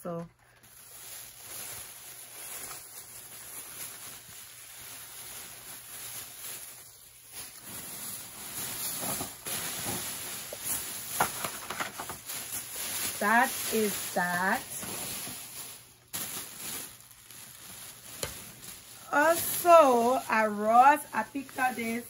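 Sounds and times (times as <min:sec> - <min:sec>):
rustling and crackling of decor items: 0:00.0 - 0:22.0.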